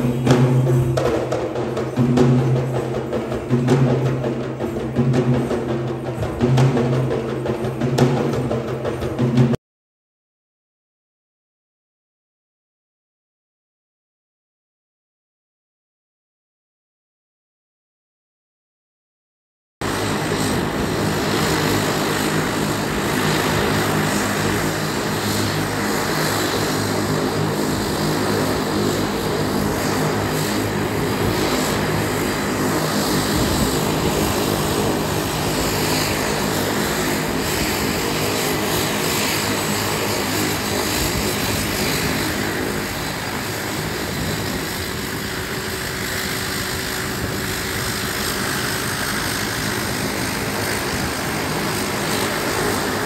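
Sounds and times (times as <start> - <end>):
turboprop plane taxiing drone: 0.0 - 9.6, 19.8 - 53.0.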